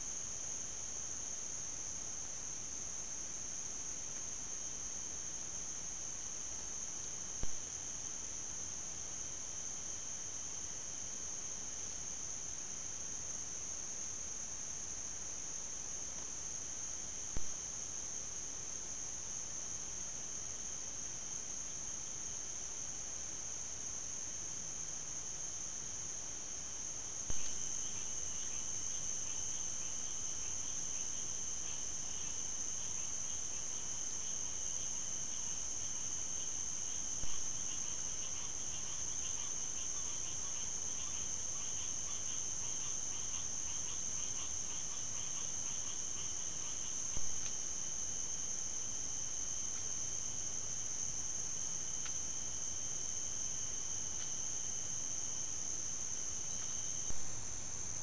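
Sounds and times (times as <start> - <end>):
pulsing insect chirp: 0.0 - 58.0
insects trilling: 5.2 - 58.0.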